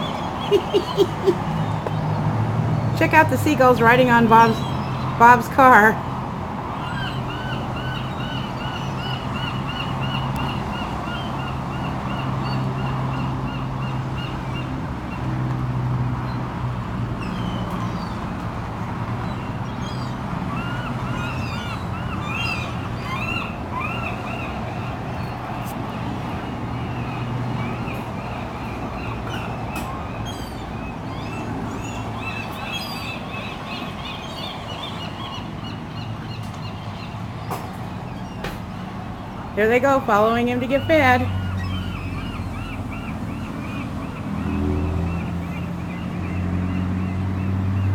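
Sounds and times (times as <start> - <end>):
engine humming: 0.0 - 47.9
gulls calling: 0.0 - 47.9.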